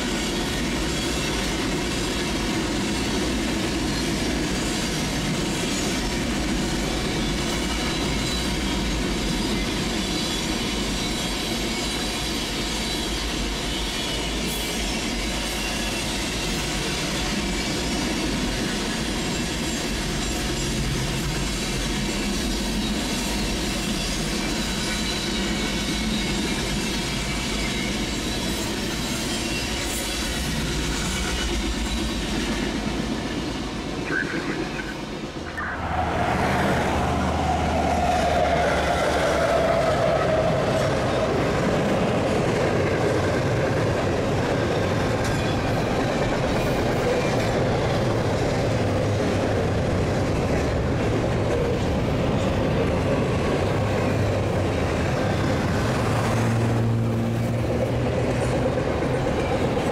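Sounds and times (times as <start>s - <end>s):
freight train rolling on rails: 0.0s - 59.9s.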